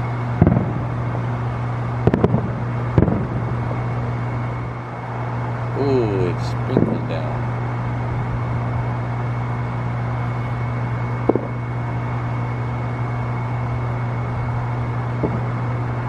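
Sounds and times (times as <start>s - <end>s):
low mechanical hum: 0.0s - 16.0s
thin whine: 0.0s - 16.0s.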